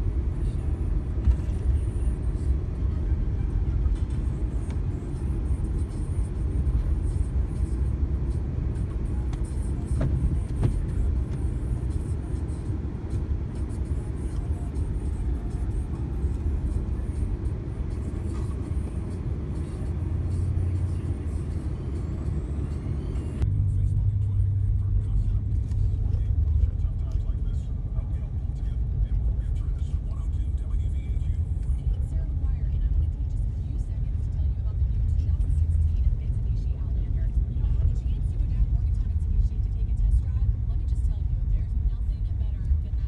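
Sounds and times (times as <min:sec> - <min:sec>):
truck engine and tyres rumbling: 0:00.0 - 0:43.0.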